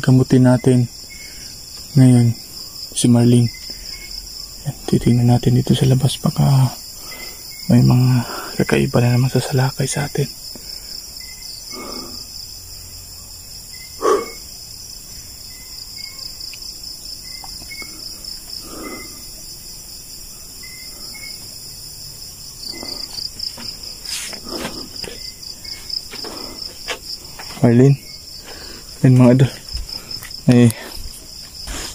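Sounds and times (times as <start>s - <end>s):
crickets chirping: 0.0s - 31.9s
short insect call: 0.0s - 31.9s.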